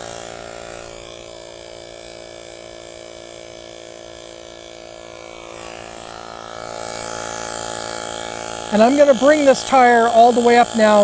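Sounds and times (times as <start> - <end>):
tire pump humming and chattering: 0.0 - 11.0.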